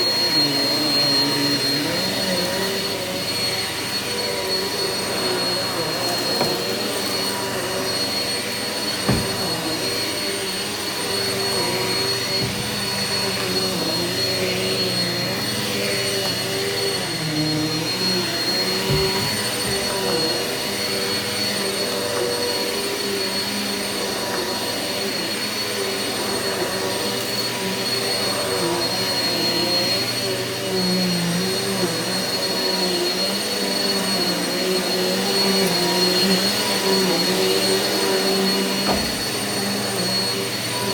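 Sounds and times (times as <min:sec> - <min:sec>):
vacuum cleaner on carpet: 0:00.0 - 0:40.9.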